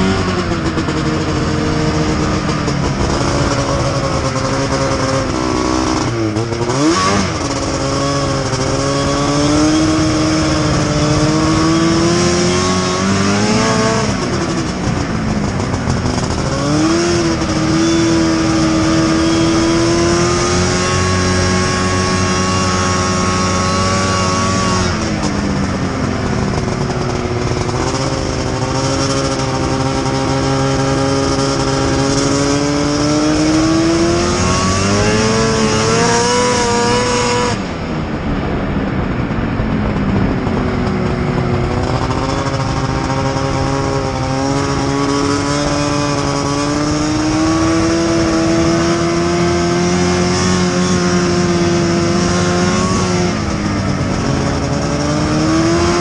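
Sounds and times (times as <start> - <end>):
snowmobile engine revving: 0.0 - 37.9, 39.9 - 56.0.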